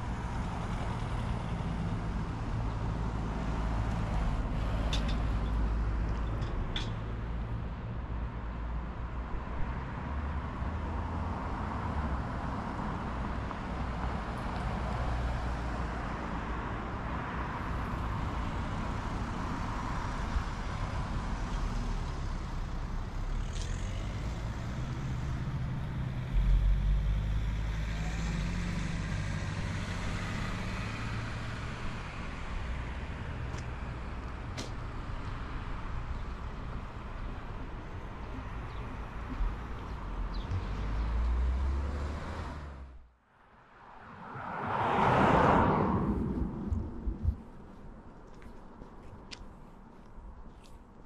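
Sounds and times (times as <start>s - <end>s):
steady low traffic rumble: 0.0s - 51.0s
vehicles passing: 0.0s - 51.0s.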